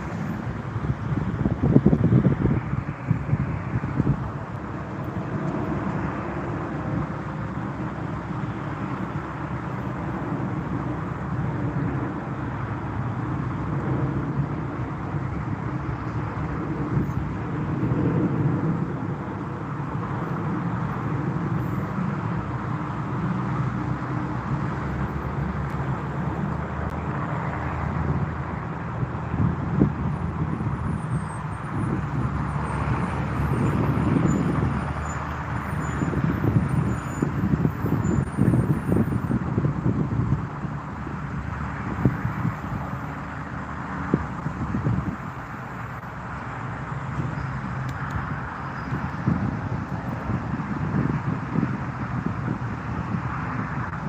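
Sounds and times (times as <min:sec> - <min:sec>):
aircraft engine rumble: 0:00.0 - 0:54.0.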